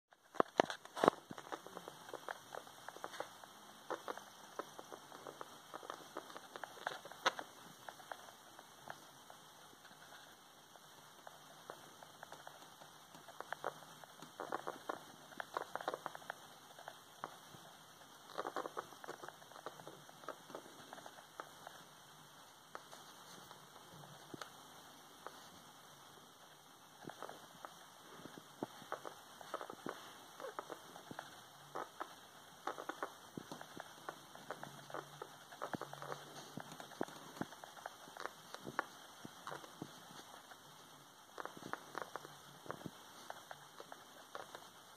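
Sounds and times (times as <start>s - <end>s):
rat sniffing and nibbling: 0.1s - 44.9s.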